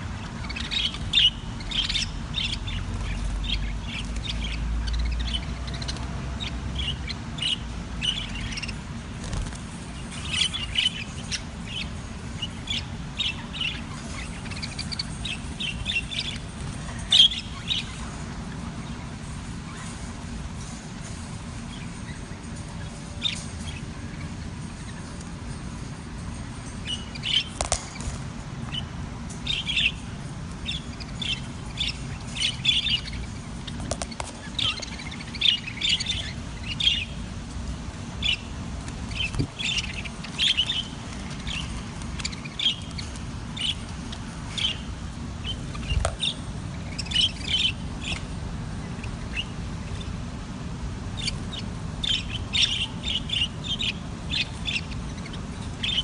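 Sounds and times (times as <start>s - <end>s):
budgerigars chirping: 0.0s - 37.3s, 38.0s - 50.2s, 51.1s - 56.0s
low background noise: 0.0s - 56.0s.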